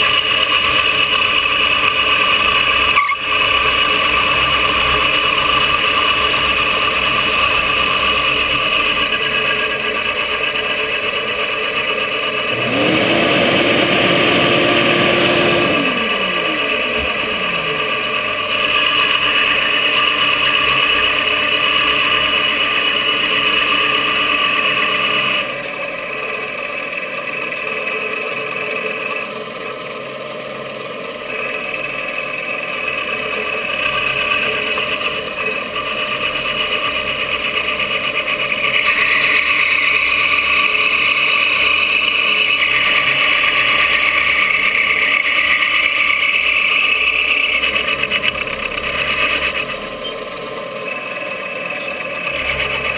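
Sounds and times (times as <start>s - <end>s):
milling machine cutting: 0.0s - 52.9s.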